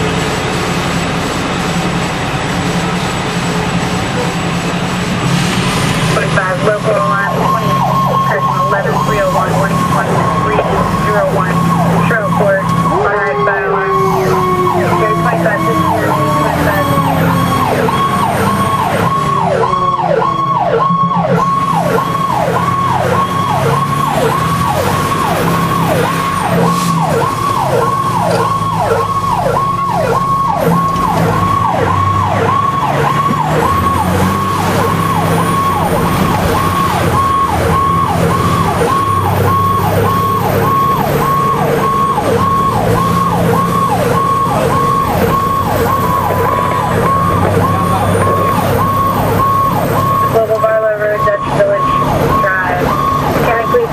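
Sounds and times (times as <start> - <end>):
fire engine siren yelp: 0.0 - 53.9
truck engine rumble: 0.0 - 53.9
slow gliding siren tone: 6.2 - 53.9.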